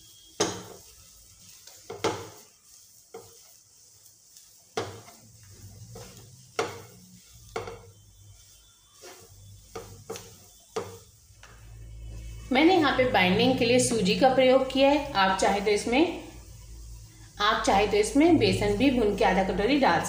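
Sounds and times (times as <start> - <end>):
spatula mashing thick mixture: 0.0 - 16.6
faint sizzle: 0.0 - 20.0
spatula scraping a pan: 0.0 - 20.0.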